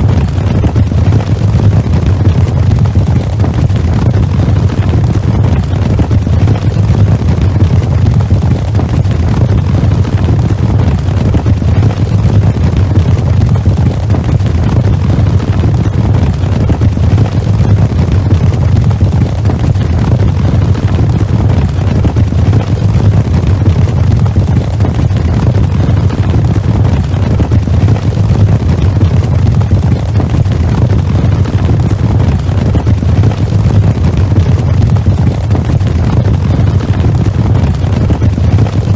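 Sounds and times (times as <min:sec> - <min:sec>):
horses galloping: 0:00.0 - 0:38.9.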